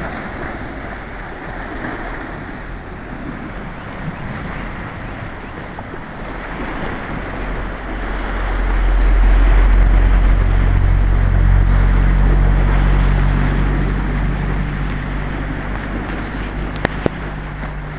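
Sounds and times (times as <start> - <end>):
low engine hum: 0.0 - 17.9
river water rushing: 0.0 - 17.9.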